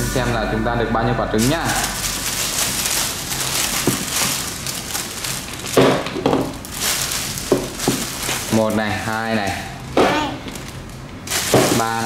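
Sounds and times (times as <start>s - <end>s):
plastic bag rustling: 1.4s - 12.0s.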